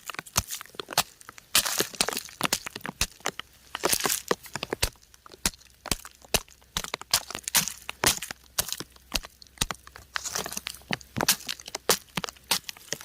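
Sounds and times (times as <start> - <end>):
raindrops pattering on rock: 0.0 - 13.0.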